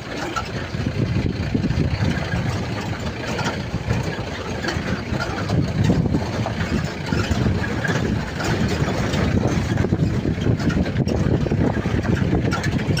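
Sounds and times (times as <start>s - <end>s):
jeep engine running: 0.0s - 13.0s
jolting rumble on rough track: 0.0s - 13.0s.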